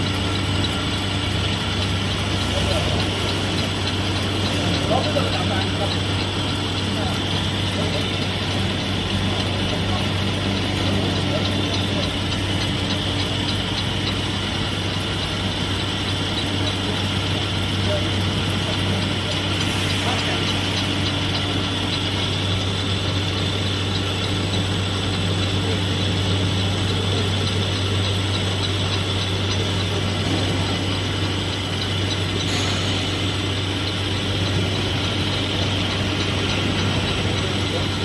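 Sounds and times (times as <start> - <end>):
milling machine grinding metal: 0.0 - 38.0.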